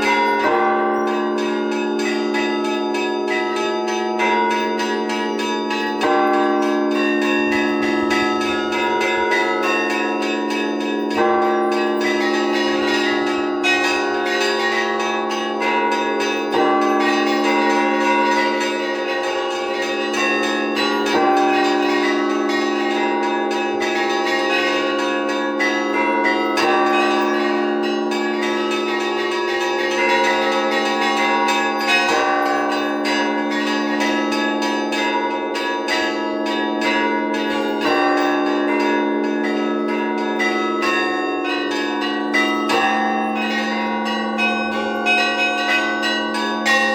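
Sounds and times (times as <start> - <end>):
hum of big bells: 0.0 - 46.9.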